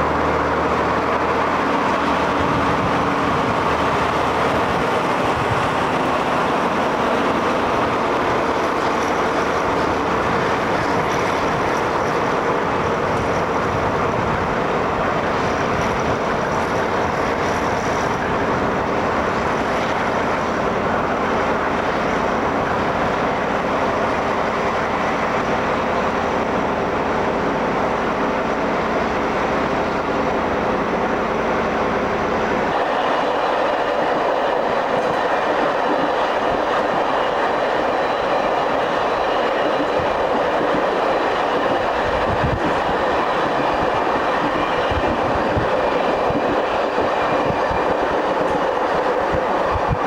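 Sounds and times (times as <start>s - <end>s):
train wheels clacking on rails: 0.0s - 50.0s.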